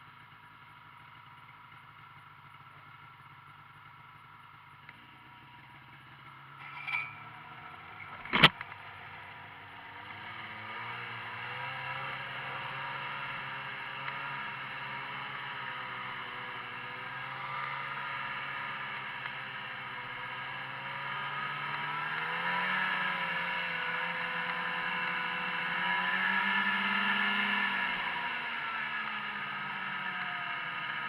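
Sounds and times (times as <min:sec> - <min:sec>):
snowmobile engine: 0:01.8 - 0:31.0.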